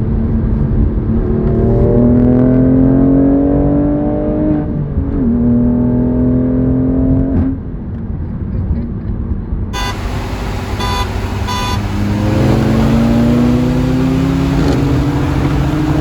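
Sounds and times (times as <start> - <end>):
car engine accelerating hard: 0.2 - 7.6, 9.8 - 16.0.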